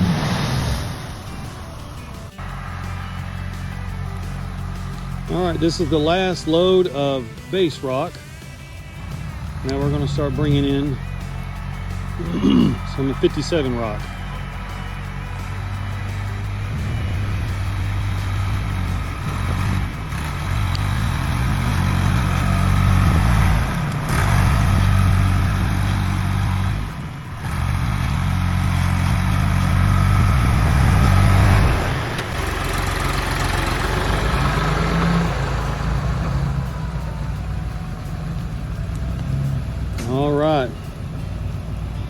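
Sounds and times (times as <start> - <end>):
heavy vehicle engine running: 0.0 - 42.0.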